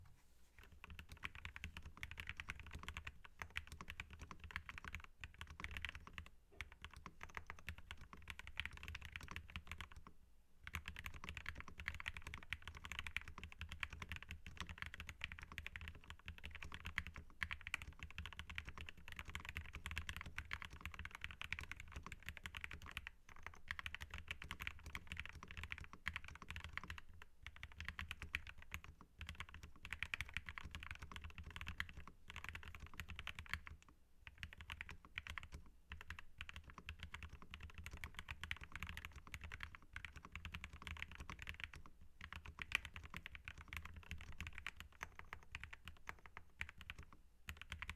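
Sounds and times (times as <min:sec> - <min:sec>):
mechanical keyboard typing: 0:00.6 - 0:47.9.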